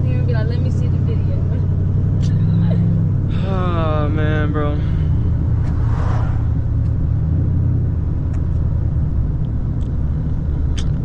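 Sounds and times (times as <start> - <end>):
car exhaust drone: 0.0 - 11.0.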